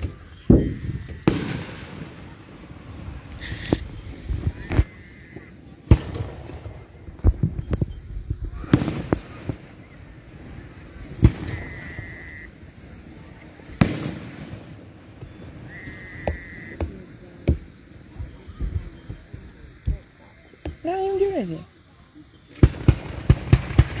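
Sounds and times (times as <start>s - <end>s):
firework pops and crackling: 0.0s - 9.9s, 11.0s - 11.7s, 13.6s - 21.6s, 22.5s - 24.0s
firework high whistle: 0.0s - 20.1s
fireworks booming: 0.0s - 24.0s.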